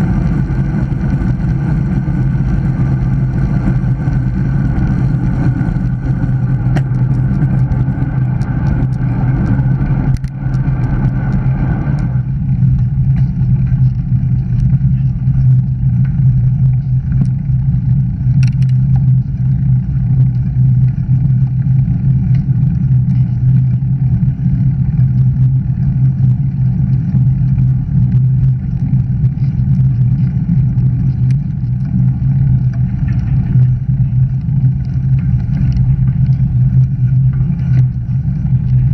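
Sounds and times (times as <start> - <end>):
bicycle tyre noise on tarmac: 0.0 - 38.9
wind on microphone: 0.0 - 38.9.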